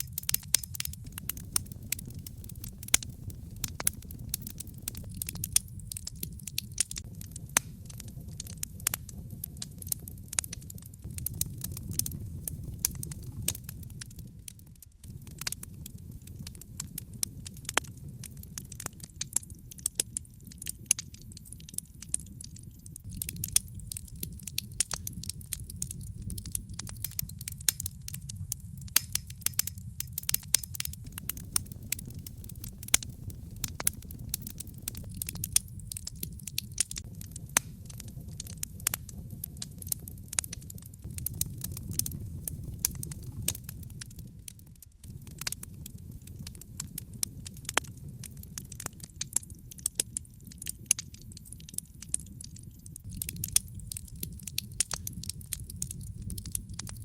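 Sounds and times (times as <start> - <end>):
burning logs crackling and popping: 0.0 - 57.0
low rumble of flame: 0.0 - 57.0.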